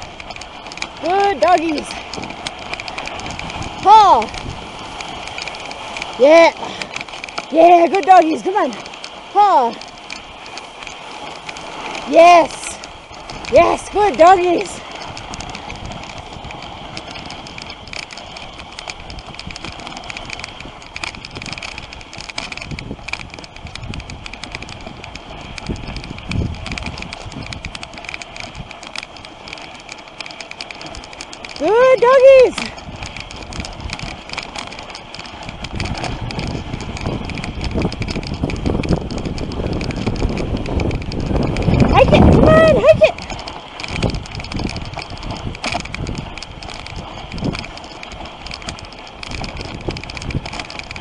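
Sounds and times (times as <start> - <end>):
light clicking and rattling: 0.0 - 51.0
sled runners hissing on snow: 0.0 - 51.0
wind on microphone: 0.0 - 51.0.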